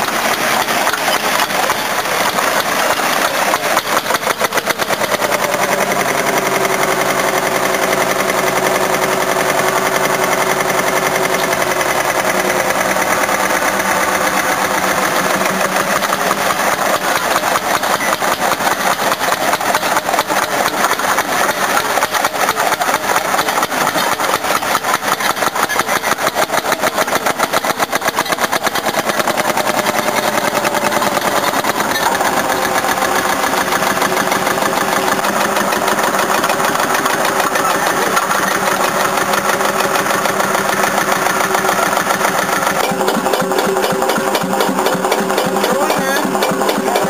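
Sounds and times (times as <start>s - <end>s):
tractor engine pulsing: 0.0s - 47.0s.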